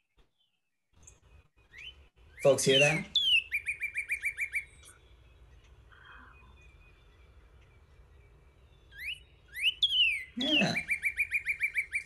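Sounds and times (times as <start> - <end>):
bird whistled song: 0.3 - 12.0.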